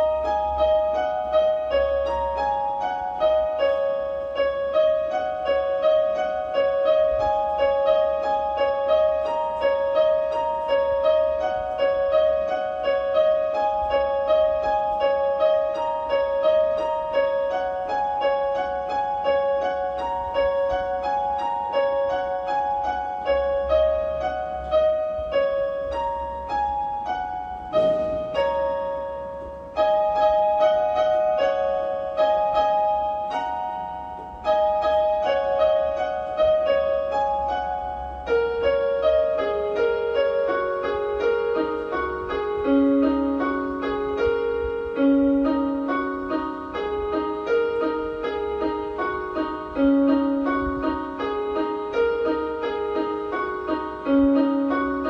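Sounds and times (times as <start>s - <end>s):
electronic piano melody: 0.0s - 55.0s.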